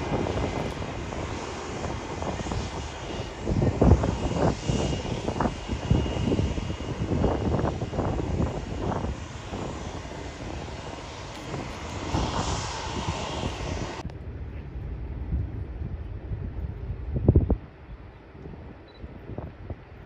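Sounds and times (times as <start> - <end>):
jet engines rumbling: 0.0 - 18.1.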